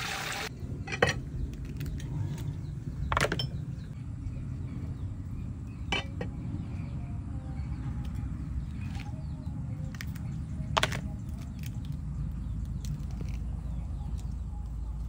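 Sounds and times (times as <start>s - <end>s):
steady low rumble: 0.5s - 15.0s.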